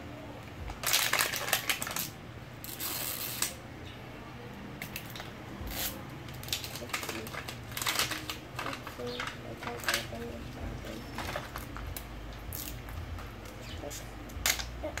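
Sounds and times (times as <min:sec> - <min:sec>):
plastic wrapping crinkling and tearing: 0:00.6 - 0:03.6, 0:04.8 - 0:15.0.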